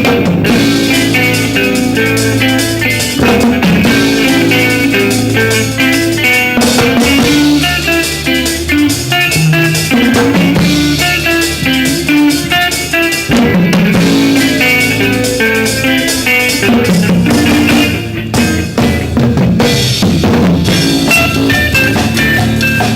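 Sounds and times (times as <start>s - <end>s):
drum kit steady beat: 0.0s - 22.9s
guitar: 0.0s - 22.9s
live band playing: 0.0s - 22.9s.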